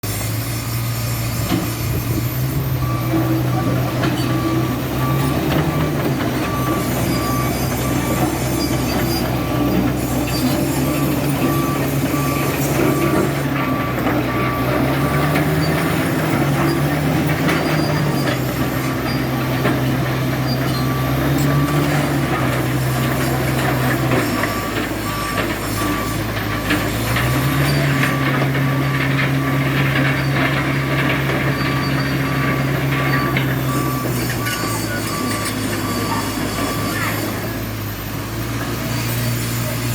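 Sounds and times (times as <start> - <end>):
bulldozer diesel engine running: 0.0 - 39.9
travel alarm beeping: 2.6 - 16.6, 17.4 - 26.4, 27.3 - 37.8.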